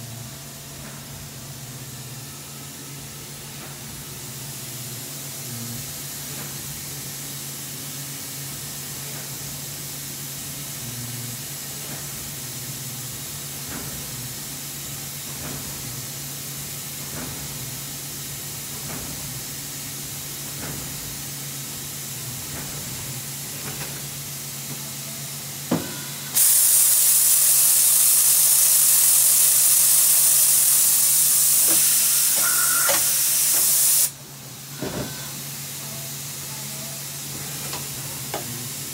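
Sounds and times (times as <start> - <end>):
loud hiss inside machine: 1.2 - 38.9.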